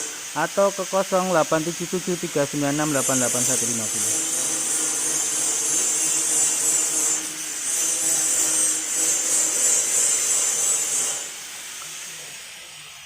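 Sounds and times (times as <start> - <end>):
press machine hissing and rubbing: 0.0 - 13.0.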